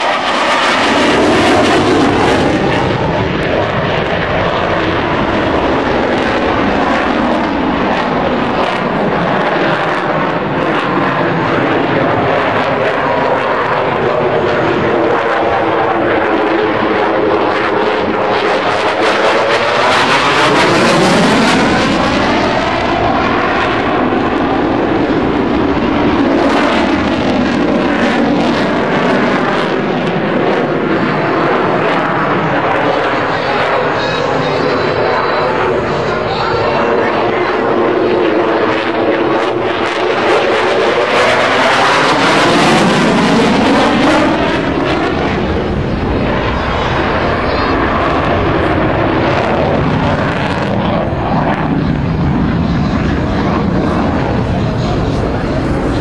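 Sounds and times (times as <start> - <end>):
fighter jet flying past: 0.0 - 56.0.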